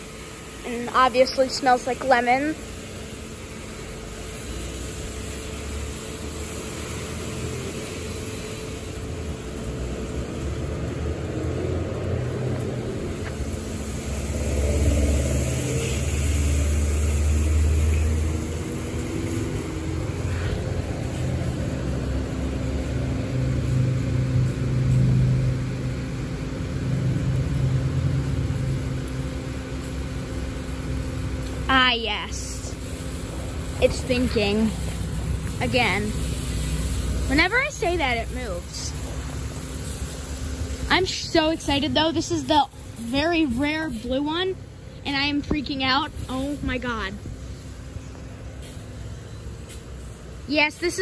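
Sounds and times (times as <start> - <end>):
car wash motors humming: 0.0 - 51.0
water spray hissing: 0.0 - 51.0.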